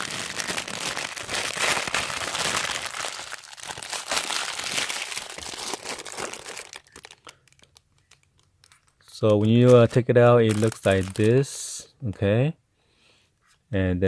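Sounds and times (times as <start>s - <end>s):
packaging crinkling: 0.0s - 11.5s.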